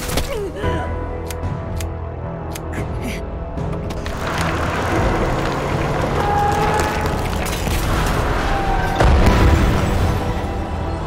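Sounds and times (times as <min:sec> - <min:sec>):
music playing: 0:00.3 - 0:11.0.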